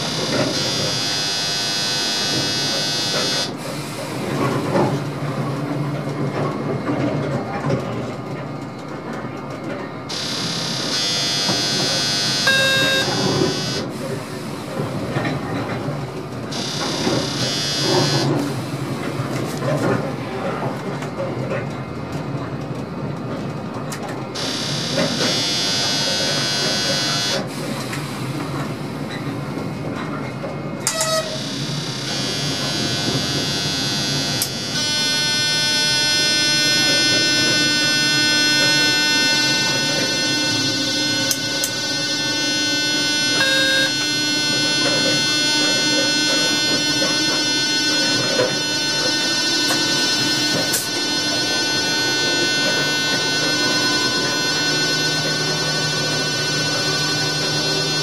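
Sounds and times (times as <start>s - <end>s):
high-pitched electric whine: 0.0s - 5.7s, 10.0s - 20.5s, 24.0s - 29.7s, 30.8s - 58.0s
locomotive running noise: 0.0s - 58.0s.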